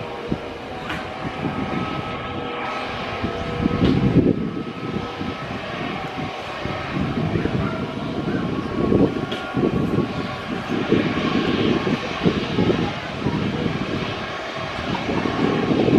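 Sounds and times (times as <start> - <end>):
jet engines rumbling and whining: 0.0 - 15.9.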